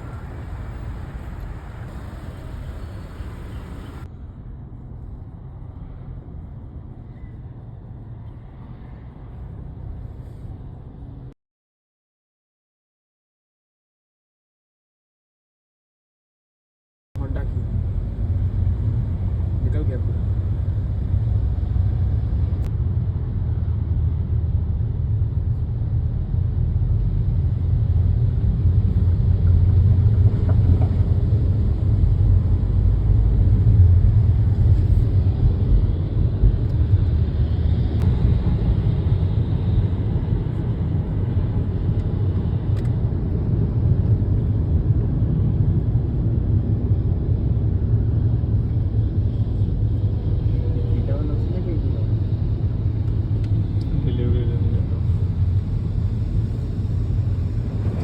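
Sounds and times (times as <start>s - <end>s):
car rumbling on the move: 0.0s - 11.3s, 17.2s - 58.0s.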